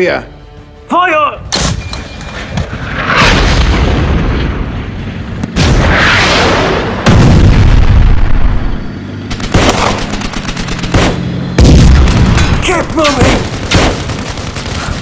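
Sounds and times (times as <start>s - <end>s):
artillery fire and explosions: 1.4s - 15.0s.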